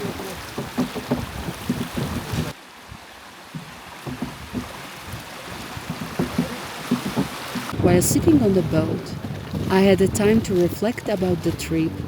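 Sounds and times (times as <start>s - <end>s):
wind buffeting microphone: 0.0s - 3.2s, 3.9s - 12.0s
water rushing along hull: 0.0s - 12.0s.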